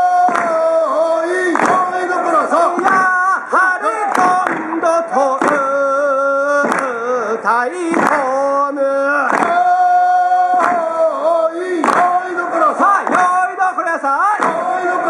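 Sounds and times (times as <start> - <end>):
person singing slow folk song: 0.0 - 15.0
sharp hand clap: 0.0 - 15.0.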